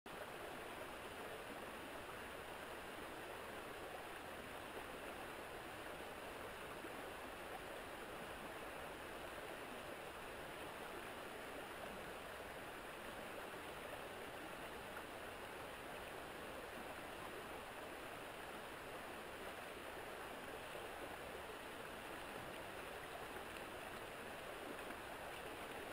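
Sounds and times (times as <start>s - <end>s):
river water rushing: 0.1s - 25.9s.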